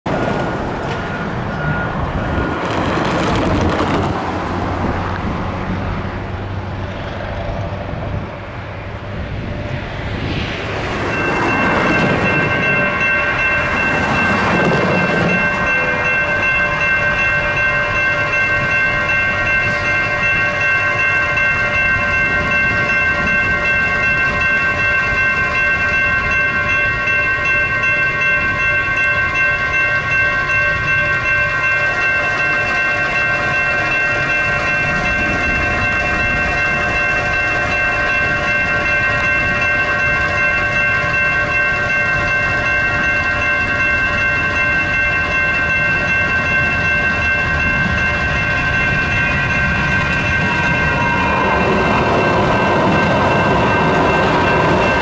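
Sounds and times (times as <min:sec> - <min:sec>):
crossing warning bells ringing: 0:00.1 - 0:55.0
road traffic passing: 0:00.1 - 0:55.0.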